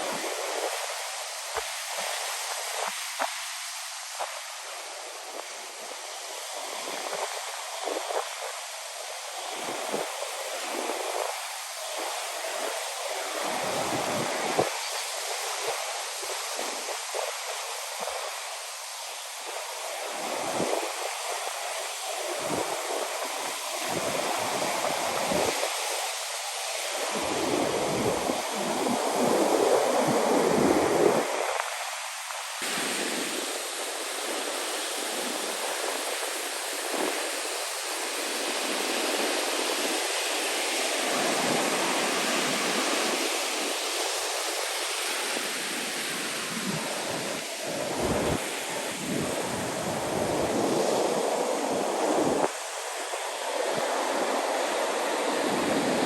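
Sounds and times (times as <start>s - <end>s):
wind on microphone: 0.0s - 3.5s, 4.1s - 56.0s
ocean surf rushing: 4.2s - 56.0s.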